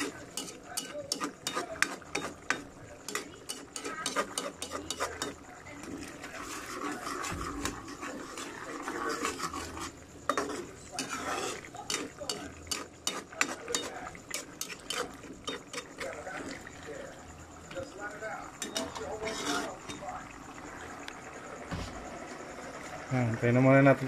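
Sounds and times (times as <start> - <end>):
metal spatula scraping a pan: 0.0 - 17.8, 18.5 - 20.1.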